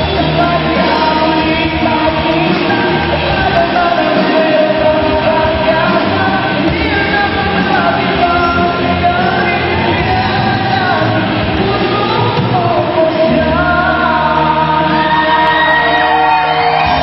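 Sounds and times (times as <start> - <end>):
electric guitars: 0.0 - 17.0
keyboard: 0.0 - 17.0
live rock band: 0.0 - 17.0
person singing long held notes: 0.0 - 17.0.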